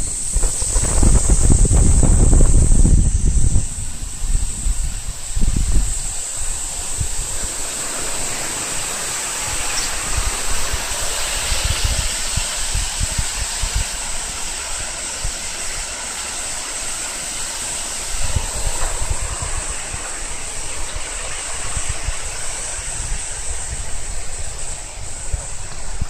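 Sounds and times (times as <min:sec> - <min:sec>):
cicadas calling: 0:00.0 - 0:26.0
wind gusting on microphone: 0:00.0 - 0:26.0.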